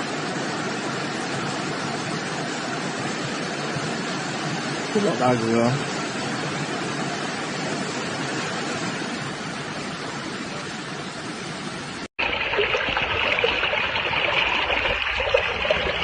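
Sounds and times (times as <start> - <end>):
floodwater rushing: 0.0 - 16.0
water rushing with bright hiss: 0.0 - 16.0.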